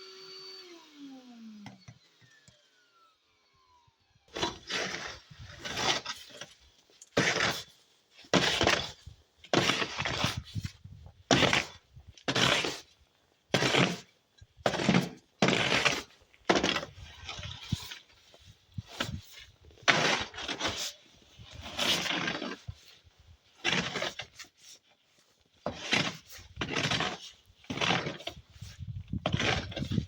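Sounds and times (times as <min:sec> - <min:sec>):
footsteps crunching in snow: 0:04.4 - 0:14.1, 0:14.7 - 0:30.0.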